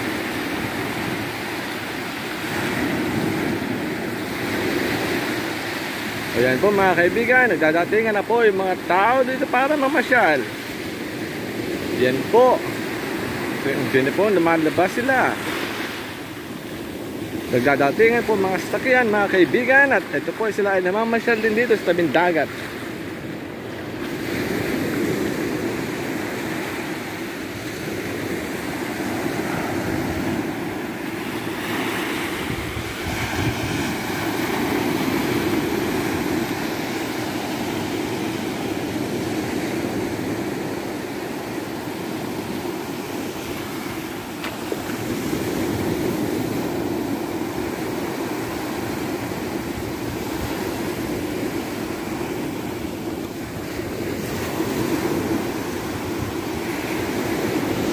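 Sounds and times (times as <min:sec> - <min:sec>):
waves washing on shore: 0:00.0 - 0:57.9.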